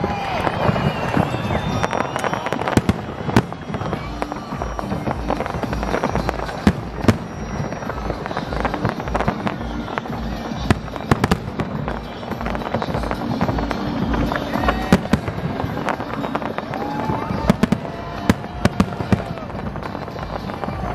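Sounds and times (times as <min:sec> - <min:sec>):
fireworks bangs: 0:00.0 - 0:20.9
fireworks crackling: 0:00.0 - 0:20.9.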